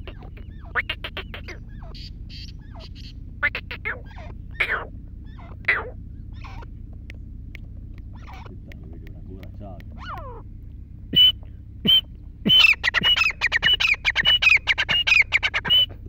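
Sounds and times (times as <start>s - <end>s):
francolins calling: 0.0s - 16.0s.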